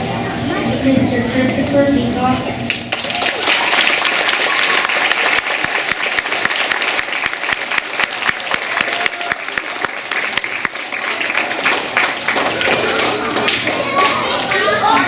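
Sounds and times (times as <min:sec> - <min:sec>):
audience clapping: 0:02.7 - 0:15.0.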